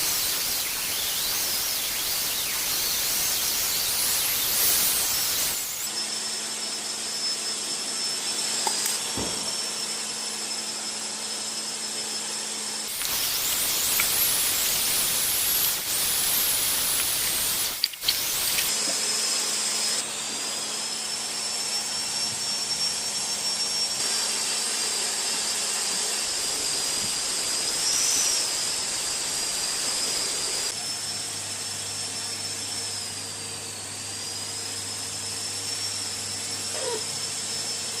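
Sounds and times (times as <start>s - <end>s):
electric blower whining hiss: 0.0s - 38.0s.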